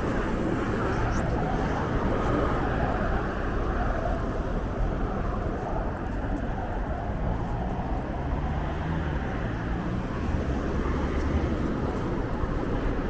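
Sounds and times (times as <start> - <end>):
city traffic: 0.0 - 13.0
low engine hum: 0.0 - 13.0.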